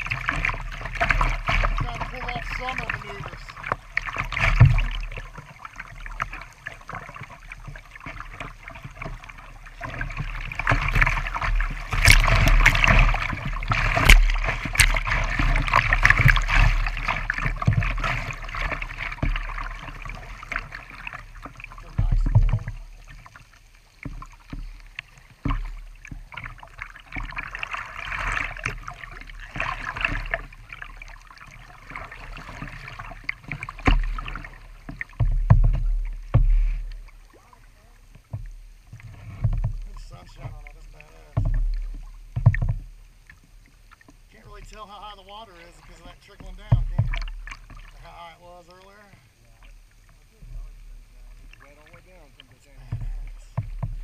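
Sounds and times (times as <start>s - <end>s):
creek water rushing and splashing: 0.0s - 54.0s.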